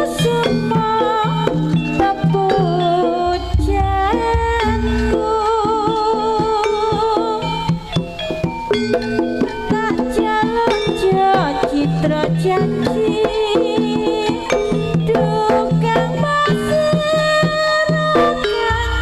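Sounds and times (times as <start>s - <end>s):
gamelan metallophone melody: 0.0s - 19.0s
hand drum strokes: 0.0s - 19.0s.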